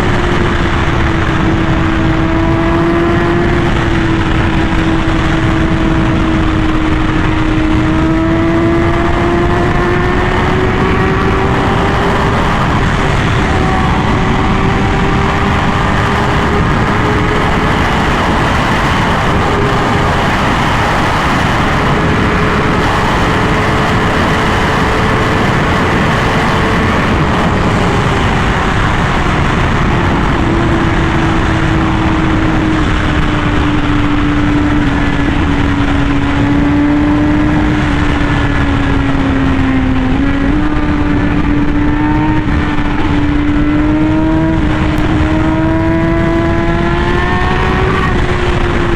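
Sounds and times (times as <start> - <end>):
motorcycle engine high revs: 0.0 - 48.9
wind noise: 0.0 - 48.9.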